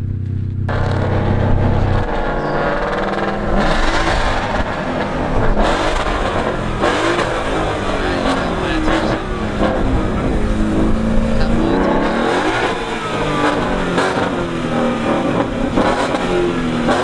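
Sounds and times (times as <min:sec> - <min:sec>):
sports car engines revving: 0:00.0 - 0:17.0.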